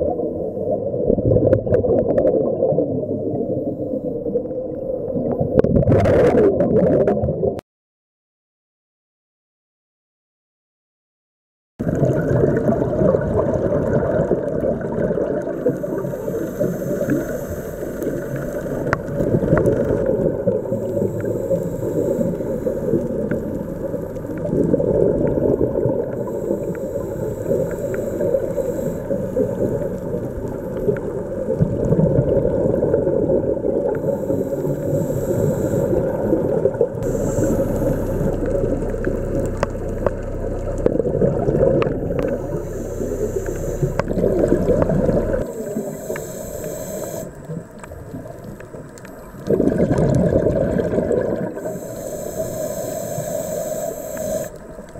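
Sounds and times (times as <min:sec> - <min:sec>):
low underwater rumble: 0:00.0 - 0:07.6, 0:11.8 - 0:54.9
regulator bubbles hissing: 0:00.0 - 0:07.6, 0:11.8 - 0:54.9.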